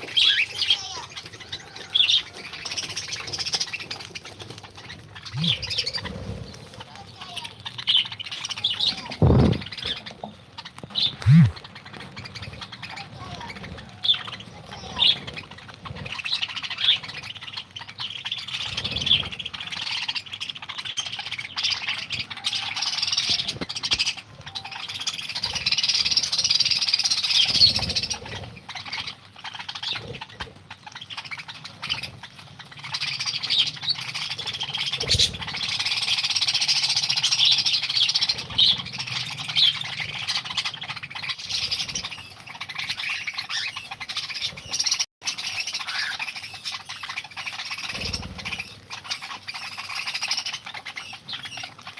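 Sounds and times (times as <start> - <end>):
birds chirping and squawking: 0.0 - 51.9.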